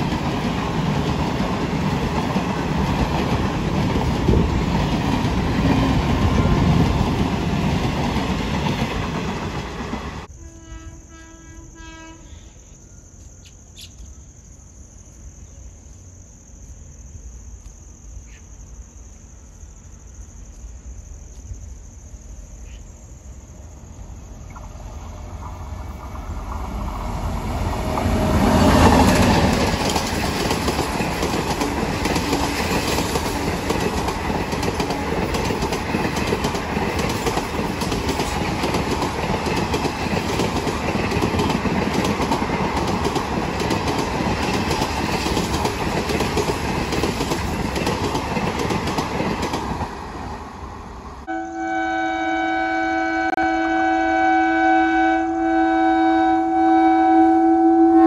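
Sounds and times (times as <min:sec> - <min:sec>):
passenger train passing: 0:00.0 - 0:12.2, 0:23.3 - 0:58.0.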